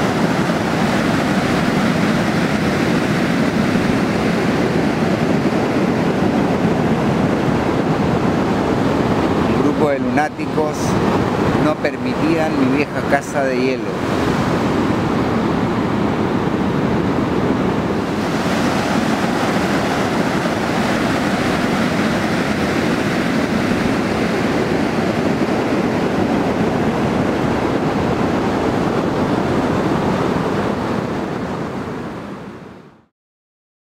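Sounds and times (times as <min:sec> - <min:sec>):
surf washing up on beach: 0:00.0 - 0:32.8
wind on microphone: 0:00.0 - 0:33.0.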